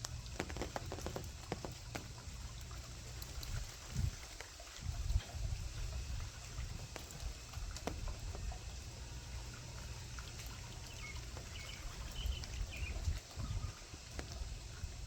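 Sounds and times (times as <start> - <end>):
wind rumble on microphone: 0.0 - 8.9, 10.6 - 15.0.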